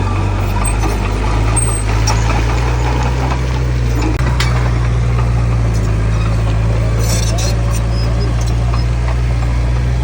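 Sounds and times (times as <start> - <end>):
heavy diesel machinery drone: 0.0 - 10.0.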